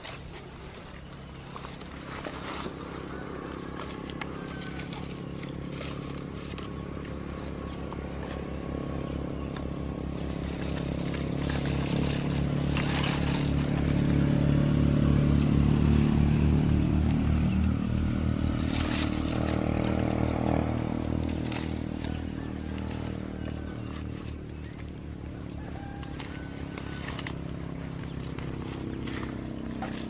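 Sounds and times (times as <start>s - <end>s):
engine droning: 0.0s - 30.0s
leaves rustling: 0.0s - 30.0s.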